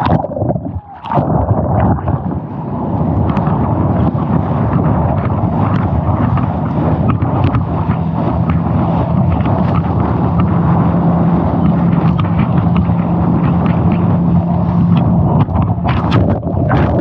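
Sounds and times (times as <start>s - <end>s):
boat motor humming: 0.0s - 17.0s
wind buffeting microphone: 0.0s - 17.0s.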